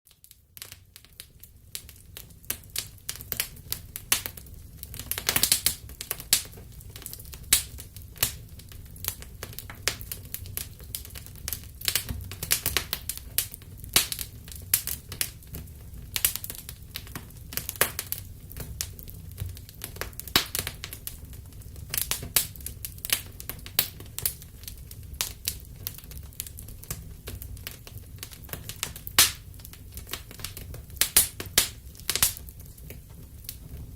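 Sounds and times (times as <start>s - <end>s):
wood fire crackling and popping: 0.1s - 33.9s
low fire rumble: 0.2s - 33.9s.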